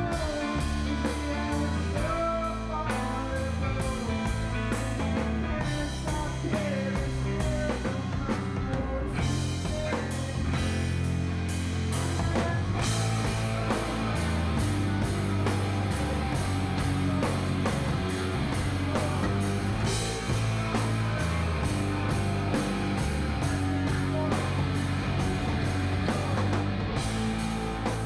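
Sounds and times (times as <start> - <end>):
bass notes: 0.0 - 28.0
drum kit with cymbal beat: 0.0 - 28.0
electric guitar: 0.0 - 28.0.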